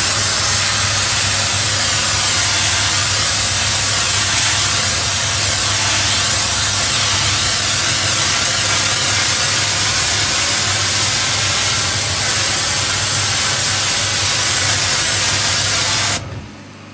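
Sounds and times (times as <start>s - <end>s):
steam cleaner spraying hiss: 0.0s - 16.2s.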